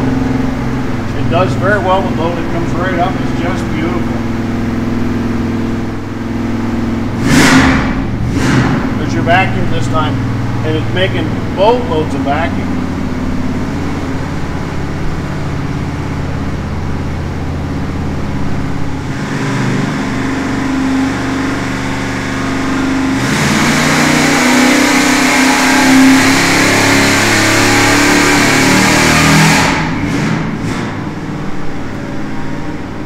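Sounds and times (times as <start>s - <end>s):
engine running under load: 0.0s - 33.0s.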